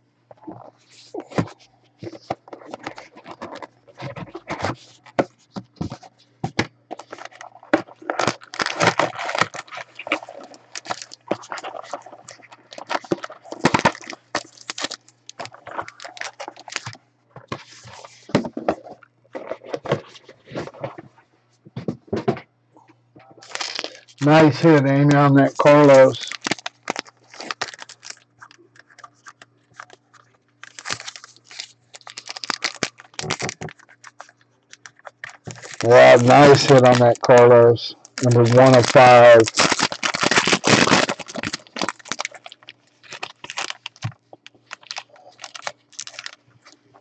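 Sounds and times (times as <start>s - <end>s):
foil wrappers crinkling and tearing: 0.4s - 6.1s, 6.9s - 20.6s, 23.4s - 46.9s
cards and box scraping and clicking: 0.5s - 21.1s, 25.6s - 46.8s.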